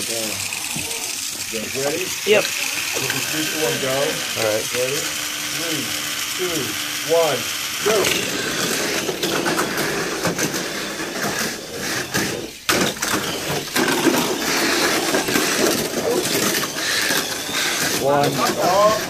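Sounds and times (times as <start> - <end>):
toy cars clattering on plastic track: 0.0 - 5.0, 7.8 - 19.0.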